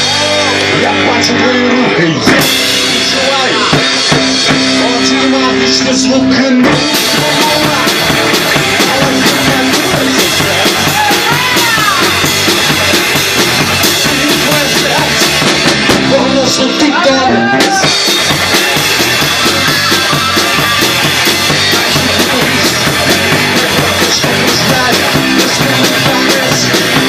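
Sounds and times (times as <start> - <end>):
drum kit beat: 0.0 - 27.0
rockabilly band playing: 0.0 - 27.0.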